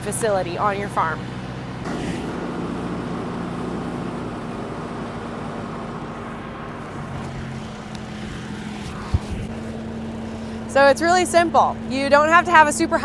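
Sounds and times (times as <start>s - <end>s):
tractor engine: 0.0s - 13.0s
grain auger running: 1.7s - 13.0s.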